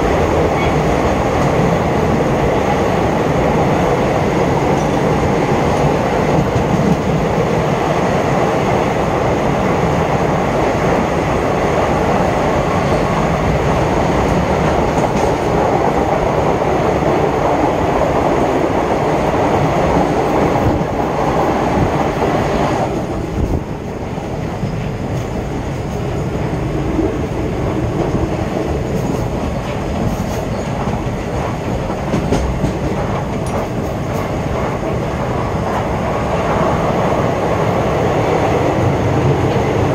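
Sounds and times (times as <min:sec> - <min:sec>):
train wheels rumbling and rattling: 0:00.0 - 0:39.9.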